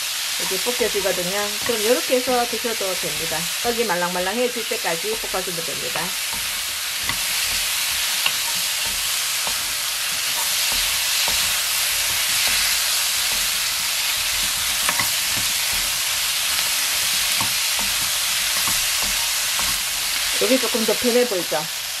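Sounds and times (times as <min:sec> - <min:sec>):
food sizzling in wok: 0:00.0 - 0:22.0
spatula knocking on pan: 0:00.4 - 0:20.8.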